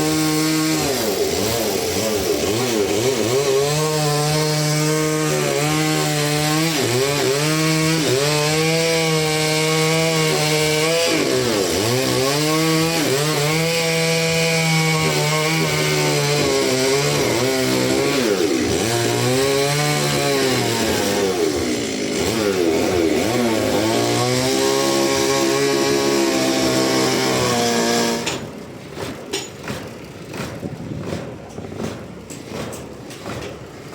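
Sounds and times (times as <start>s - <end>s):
chainsaw cutting log: 0.0s - 33.9s.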